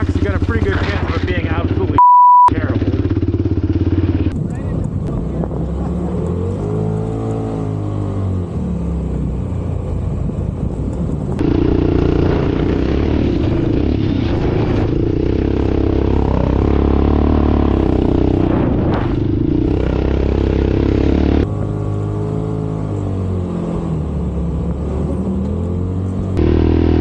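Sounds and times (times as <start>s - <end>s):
off-road vehicle engine: 0.0s - 27.0s.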